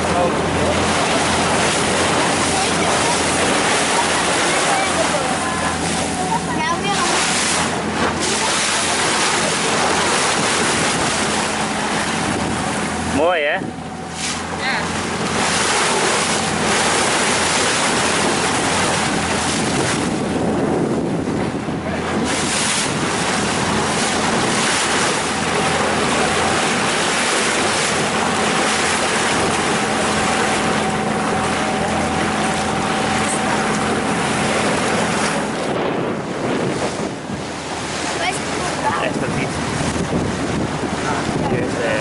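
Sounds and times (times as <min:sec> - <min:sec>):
boat engine hum: 0:00.0 - 0:42.0
water rushing past hull: 0:00.0 - 0:42.0
wind buffeting microphone: 0:00.0 - 0:42.0.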